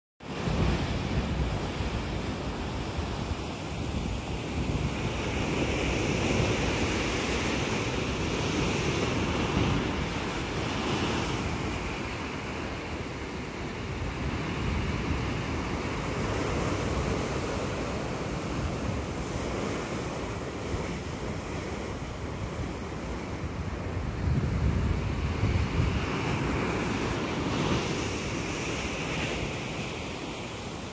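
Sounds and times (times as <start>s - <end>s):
wind buffeting microphone: 0.3s - 30.9s.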